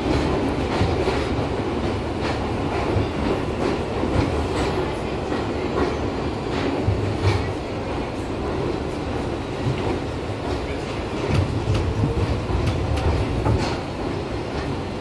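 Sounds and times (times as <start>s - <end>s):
rumble of train wheels on rail: 0.0s - 15.0s.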